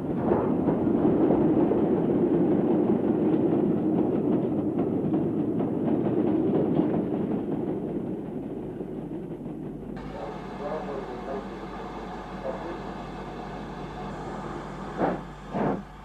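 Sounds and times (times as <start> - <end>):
rail clicks: 0.0 - 16.0
train rumbling on rails: 0.0 - 16.0.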